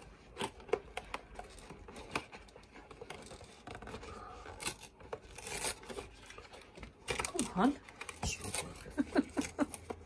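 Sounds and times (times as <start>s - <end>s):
scratching and scraping card: 0.0s - 10.0s.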